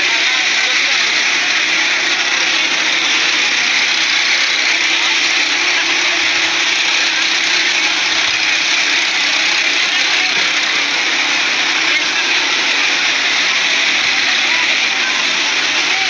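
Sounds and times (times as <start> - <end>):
loud motor-like whir: 0.0 - 16.0
people's voices: 0.0 - 16.0.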